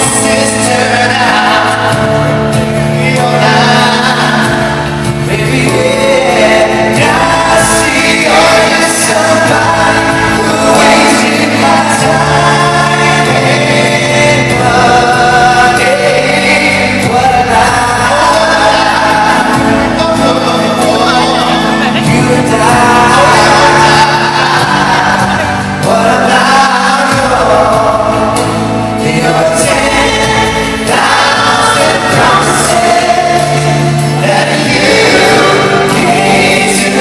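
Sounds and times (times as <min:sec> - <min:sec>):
instrumental backing: 0:00.0 - 0:37.0
male vocal group singing: 0:00.0 - 0:37.0.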